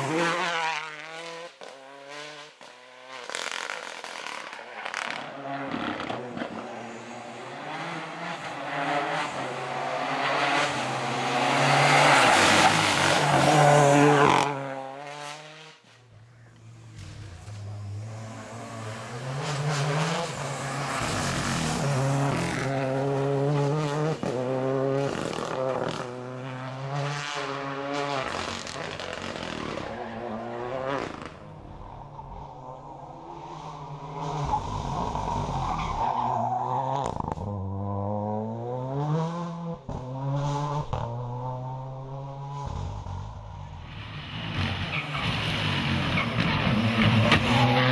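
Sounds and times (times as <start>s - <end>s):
rally car engine driven hard: 0.0s - 47.9s.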